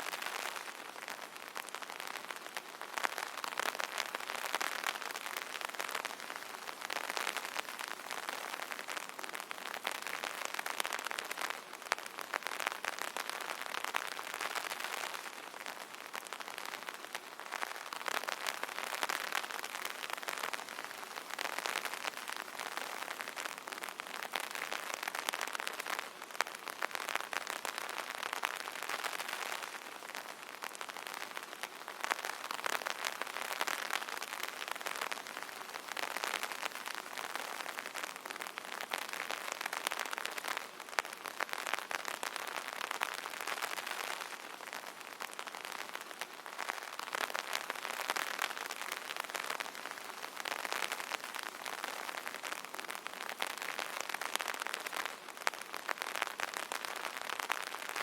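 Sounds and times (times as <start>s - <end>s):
rain pattering on an umbrella: 0.0s - 58.0s.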